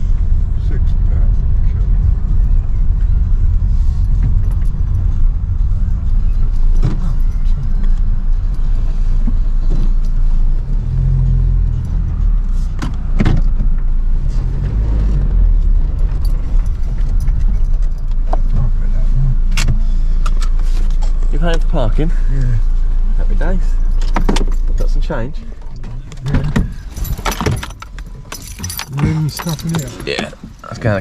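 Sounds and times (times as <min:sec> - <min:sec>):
engine and road rumble: 0:00.0 - 0:31.0.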